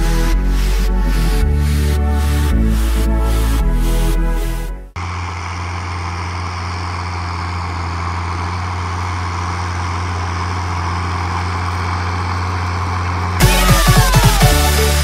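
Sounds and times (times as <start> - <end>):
diesel tractor engine droning: 0.0 - 15.0.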